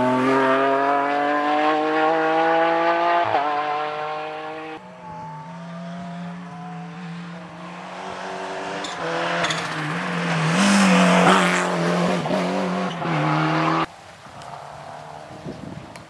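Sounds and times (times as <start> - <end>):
rally car engine passing at high revs: 0.0 - 13.9.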